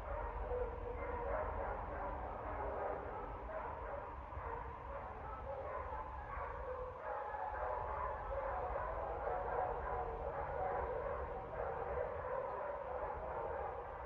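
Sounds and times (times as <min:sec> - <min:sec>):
dogs barking: 0:00.0 - 0:14.0.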